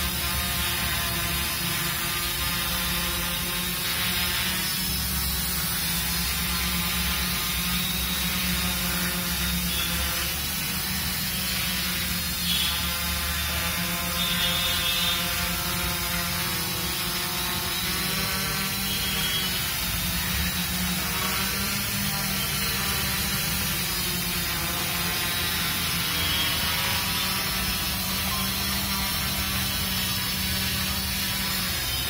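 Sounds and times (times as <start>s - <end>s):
drone propellers droning: 0.0s - 32.0s.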